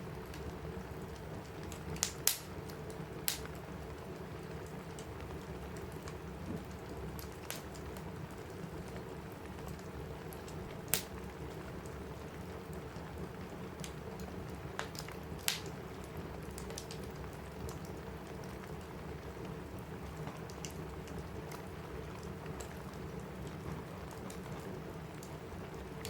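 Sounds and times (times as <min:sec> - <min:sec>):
rain on a roof: 0:00.0 - 0:26.0
wood fire crackling: 0:00.0 - 0:26.0.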